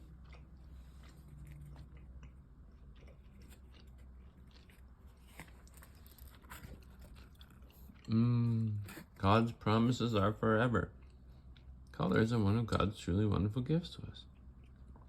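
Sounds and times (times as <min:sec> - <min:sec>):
faint chewing of candy: 0:00.0 - 0:15.0.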